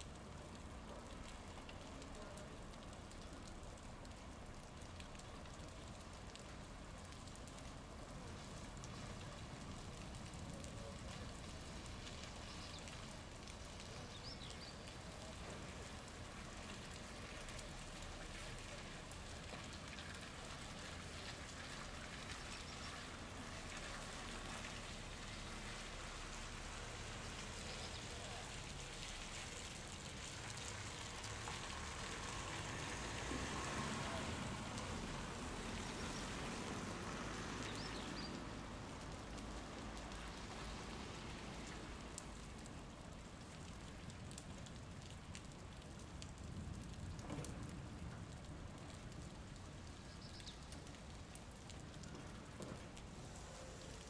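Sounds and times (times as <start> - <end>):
rain patter: 0.0 - 54.0
water dripping: 0.0 - 54.0.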